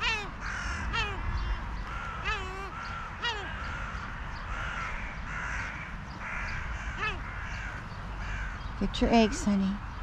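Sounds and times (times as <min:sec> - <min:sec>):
crows cawing: 0:00.0 - 0:09.7.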